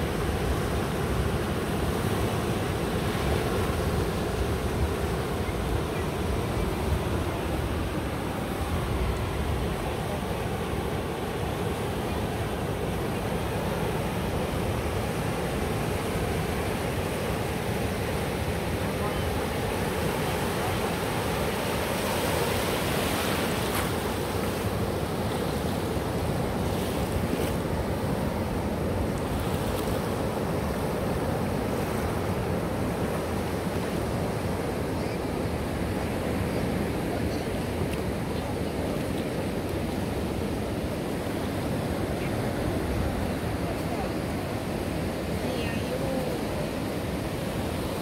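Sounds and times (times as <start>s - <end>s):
ocean surf: 0.0s - 48.0s.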